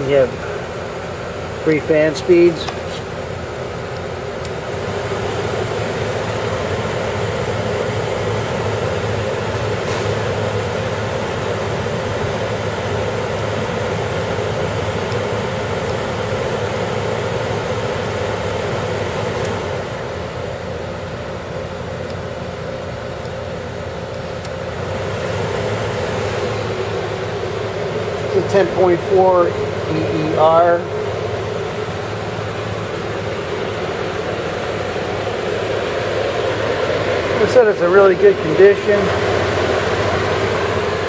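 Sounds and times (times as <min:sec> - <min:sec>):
air conditioner running: 0:00.0 - 0:41.0.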